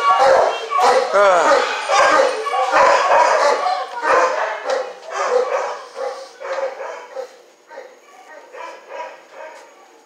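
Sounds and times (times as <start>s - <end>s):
dogs barking: 0.0s - 10.0s.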